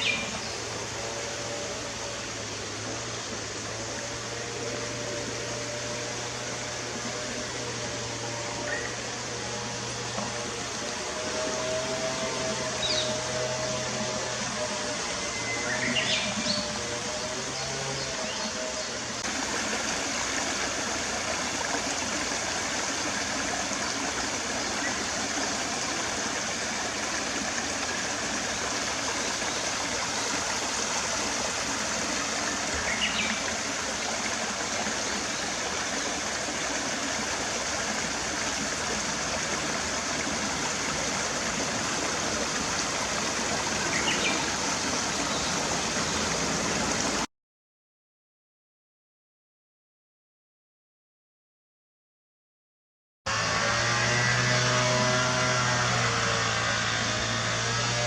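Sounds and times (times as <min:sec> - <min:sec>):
stream water rushing: 0:00.0 - 0:47.3.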